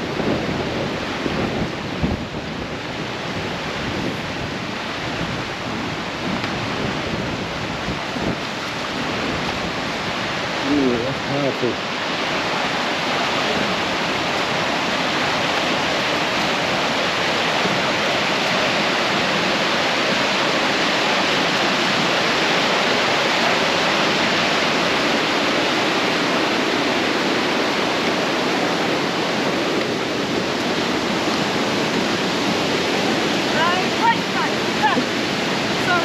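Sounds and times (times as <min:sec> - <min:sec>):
waterfall crashing: 0:00.0 - 0:36.0.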